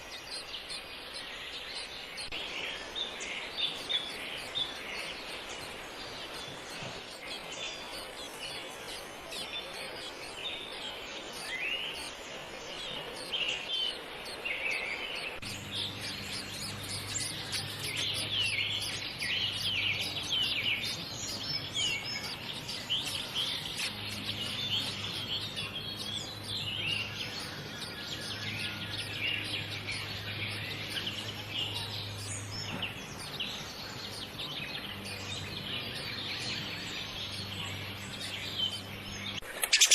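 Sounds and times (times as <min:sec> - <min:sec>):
birds chirping: 0:00.0 - 0:39.9
low steady hum: 0:00.0 - 0:39.9.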